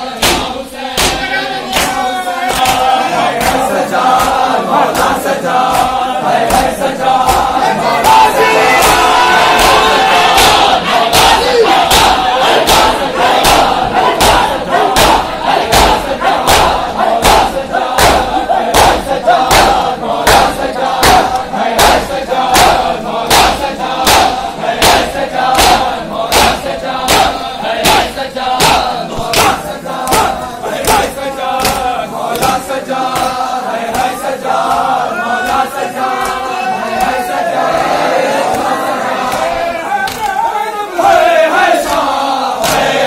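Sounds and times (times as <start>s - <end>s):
men chanting: 0.0s - 43.0s
hands slapping chests: 0.2s - 37.4s, 38.4s - 40.4s, 41.8s - 43.0s.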